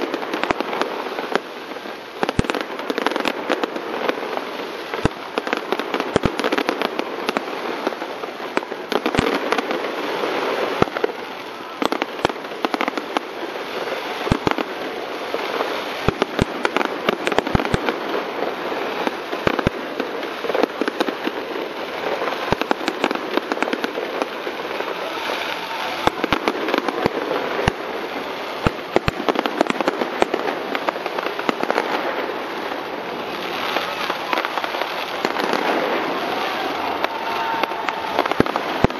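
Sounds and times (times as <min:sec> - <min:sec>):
fireworks crackling: 0:00.0 - 0:38.9
sharp fireworks bangs: 0:00.0 - 0:38.9.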